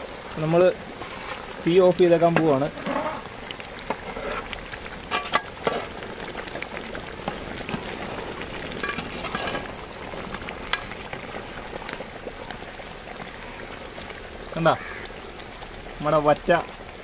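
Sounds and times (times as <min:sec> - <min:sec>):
curry bubbling in a pot: 0:00.0 - 0:17.0.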